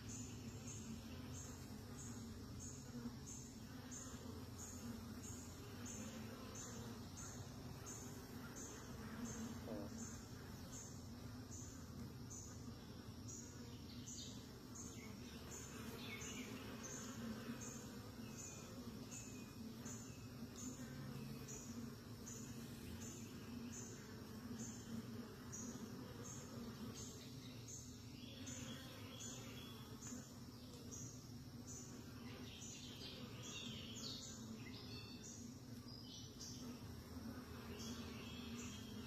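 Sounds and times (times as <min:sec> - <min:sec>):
honeybees humming: 0:00.0 - 0:39.0.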